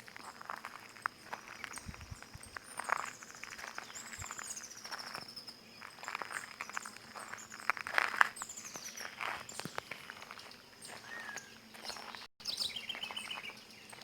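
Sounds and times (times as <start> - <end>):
birds singing: 0.0 - 14.0
footsteps crunching on stones: 0.0 - 14.0.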